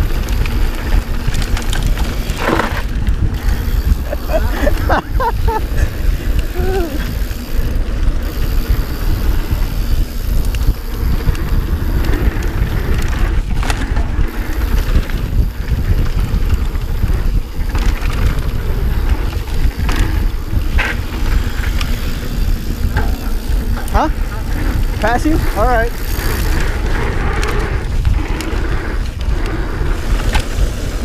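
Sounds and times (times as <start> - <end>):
bike clicks: 0.0 - 31.0
tyres rumbling on dirt: 0.0 - 31.0
wind buffeting microphone: 0.0 - 31.0.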